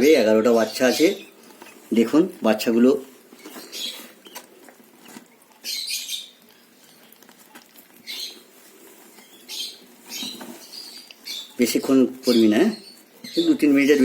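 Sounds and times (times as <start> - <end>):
bird chicks squeaking: 0.0 - 14.0.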